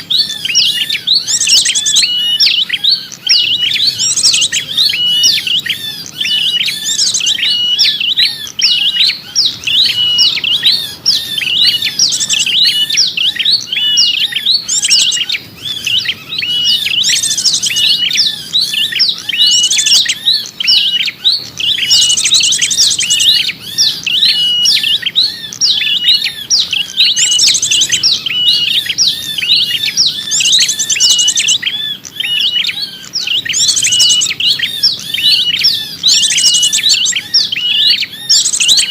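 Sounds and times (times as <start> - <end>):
songbirds chirping rapidly: 0.0 - 38.9.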